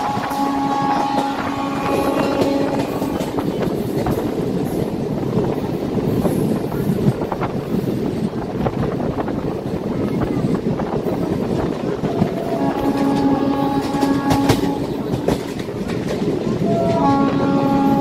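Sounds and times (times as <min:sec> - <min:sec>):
train clicks and knocks: 0:00.0 - 0:18.0
train wheels rumbling on rail: 0:00.0 - 0:18.0.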